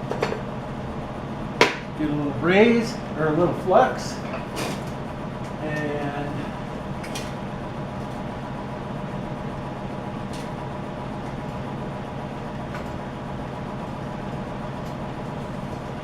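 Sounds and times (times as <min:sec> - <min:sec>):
low hum and running noise: 0:00.0 - 0:16.0.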